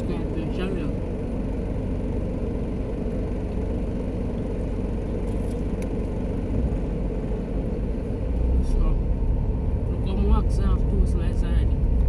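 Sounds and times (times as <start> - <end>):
car rumble: 0.0 - 12.0.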